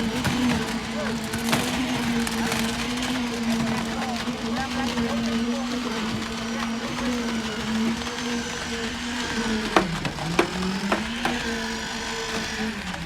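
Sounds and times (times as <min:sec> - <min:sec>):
machine motor humming: 0:00.0 - 0:13.0.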